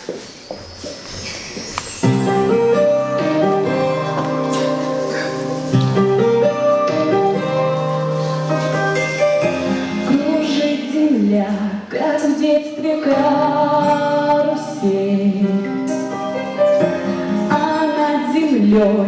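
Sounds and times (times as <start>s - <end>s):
song backing track: 0.0s - 19.0s.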